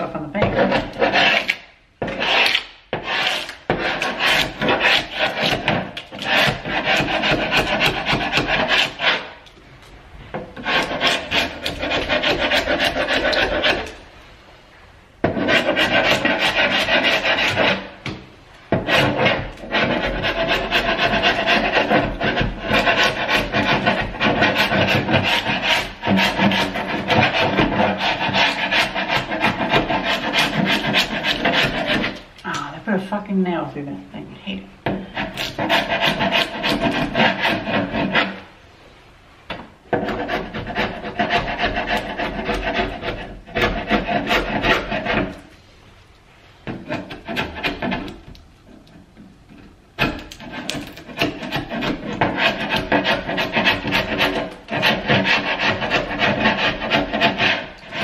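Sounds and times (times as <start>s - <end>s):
chisel scraping paint off wood: 0.4s - 9.5s, 10.3s - 14.0s, 15.2s - 32.6s, 34.9s - 38.5s, 39.5s - 45.6s, 46.6s - 58.0s.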